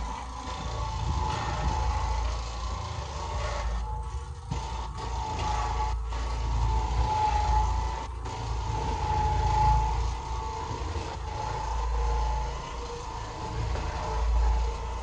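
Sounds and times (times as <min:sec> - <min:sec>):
floor machine motor rumble and whine: 0:00.0 - 0:15.0.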